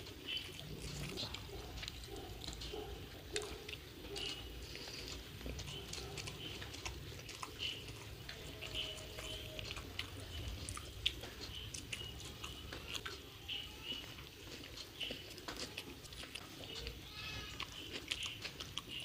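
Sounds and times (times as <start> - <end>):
mouth clicks: 0.0 - 19.0
wet chewing and lip-smacking: 0.0 - 19.0.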